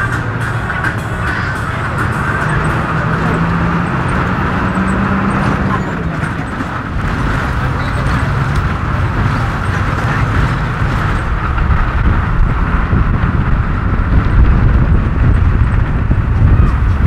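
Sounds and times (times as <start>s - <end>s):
bus engine and road rumble: 0.0s - 17.0s
wind rushing: 0.0s - 17.0s.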